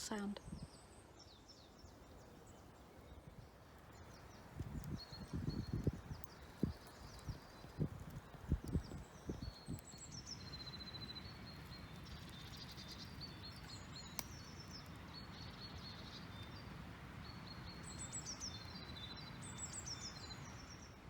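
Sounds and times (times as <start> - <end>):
low outdoor background: 0.0 - 21.0
songbirds singing: 0.0 - 21.0.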